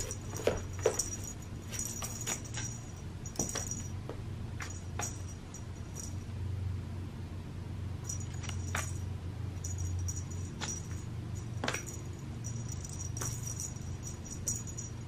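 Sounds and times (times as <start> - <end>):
cat toy metallic jingling: 0.0 - 4.0, 4.6 - 6.2, 8.0 - 15.0
steady low hum: 0.0 - 15.0.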